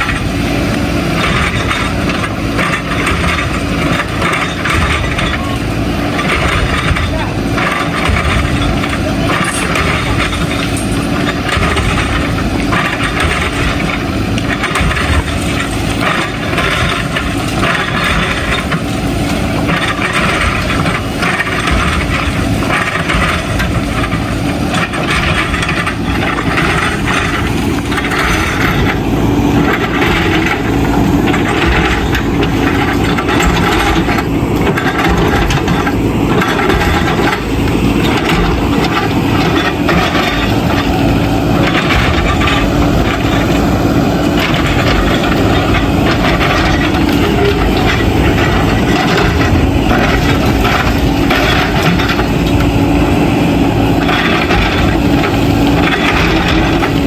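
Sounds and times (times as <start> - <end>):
diesel engine running: 0.0 - 57.0
rubble scraping and clattering: 0.0 - 57.0.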